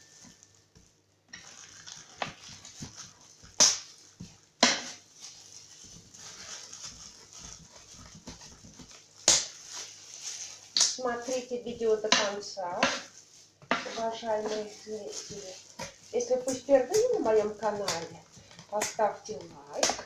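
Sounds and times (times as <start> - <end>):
plastic glove rustling: 0.0 - 20.0
hand scraping pumpkin pulp: 1.4 - 20.0.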